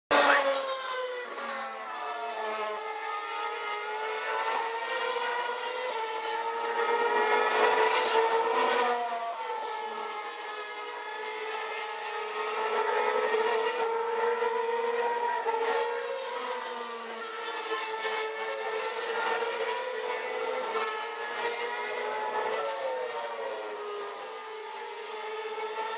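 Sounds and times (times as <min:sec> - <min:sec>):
racing car engines at high revs: 0:00.1 - 0:25.9.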